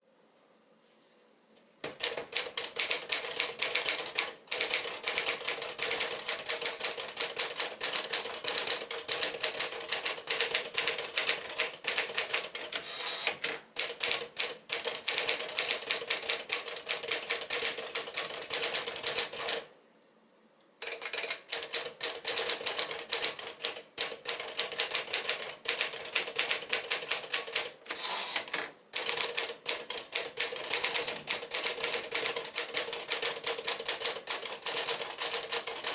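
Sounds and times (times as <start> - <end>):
manual typewriter typing: 1.8 - 19.7, 20.8 - 27.8, 28.4 - 35.9.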